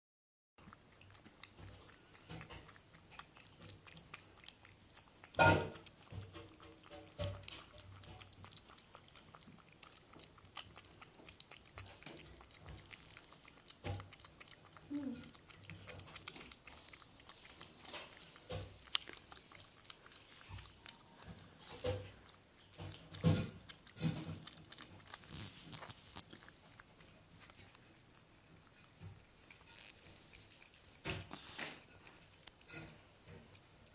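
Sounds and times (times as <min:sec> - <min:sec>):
cat chewing food: 0:00.6 - 0:33.9.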